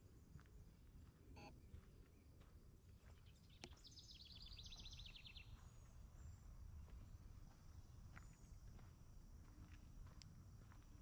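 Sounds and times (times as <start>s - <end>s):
faint footsteps on a trail: 0.0s - 11.0s.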